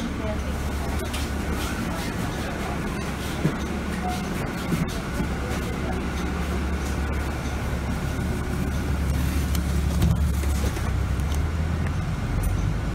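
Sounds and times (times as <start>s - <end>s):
bus engine droning: 0.0s - 12.9s.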